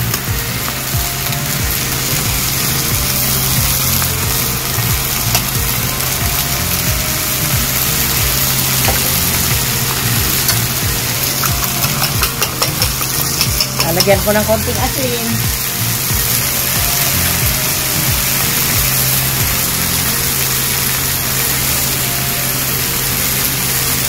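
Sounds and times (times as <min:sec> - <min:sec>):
spinach sizzling in oil: 0:00.0 - 0:24.0.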